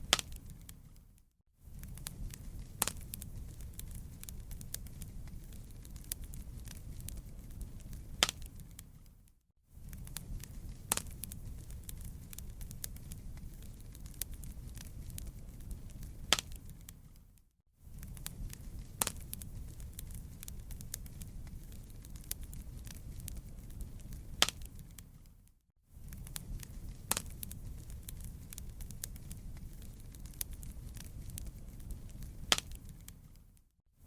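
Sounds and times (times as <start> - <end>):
wood fire crackling and popping: 0.0 - 33.6
low rumble of burning: 0.0 - 33.7.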